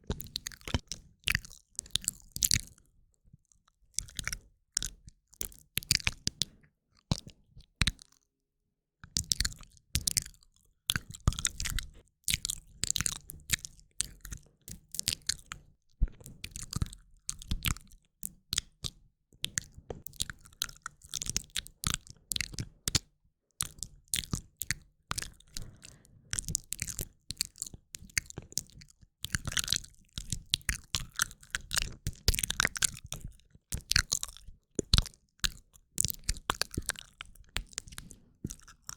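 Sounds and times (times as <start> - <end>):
wet lip and tongue clicks: 3.9 - 6.4, 9.2 - 38.9.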